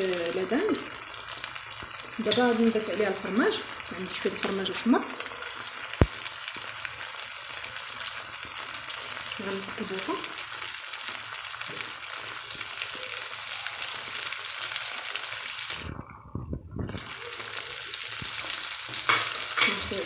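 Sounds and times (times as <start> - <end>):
food sizzling in a frying pan: 0.0 - 16.2, 16.8 - 20.0.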